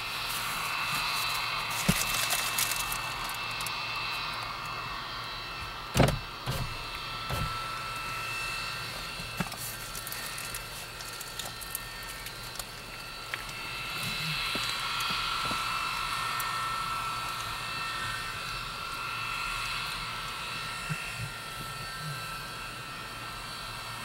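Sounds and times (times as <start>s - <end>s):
jet engine blast and whine: 0.0s - 24.0s.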